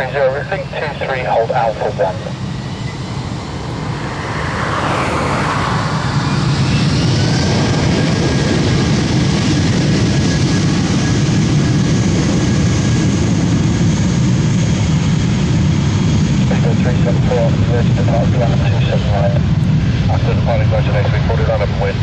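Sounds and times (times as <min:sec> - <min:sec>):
jet engines rumbling at takeoff: 0:00.0 - 0:22.0.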